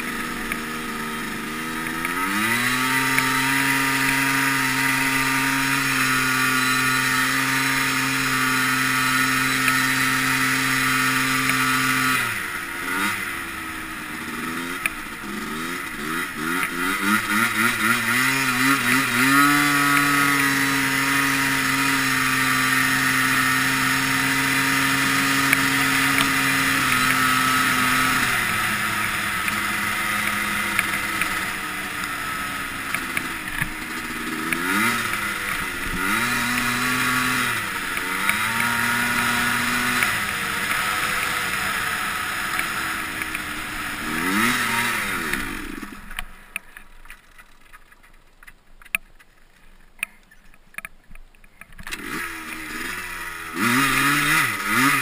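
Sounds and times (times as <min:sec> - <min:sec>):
two-stroke quad engine revving: 0:00.0 - 0:47.7, 0:51.7 - 0:55.0.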